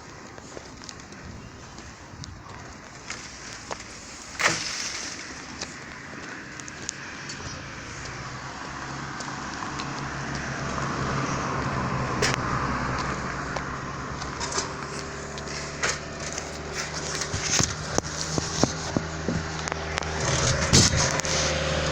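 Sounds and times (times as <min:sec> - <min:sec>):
airplane passing: 0:02.8 - 0:21.9.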